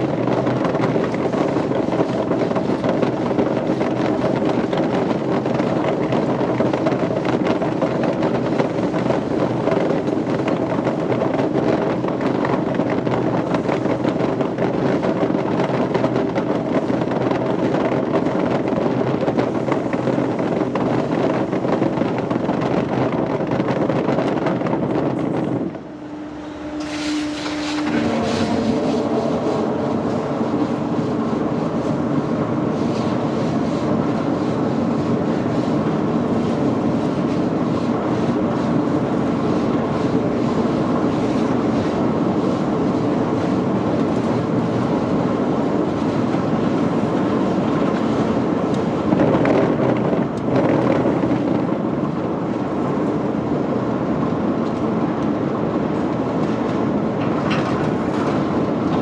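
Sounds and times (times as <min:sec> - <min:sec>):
heavy factory machinery running: 0:00.0 - 0:59.0.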